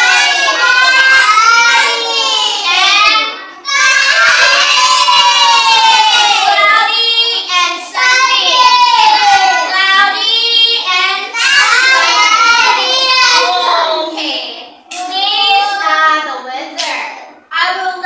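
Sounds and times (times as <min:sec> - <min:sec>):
young children singing: 0:00.0 - 0:18.0.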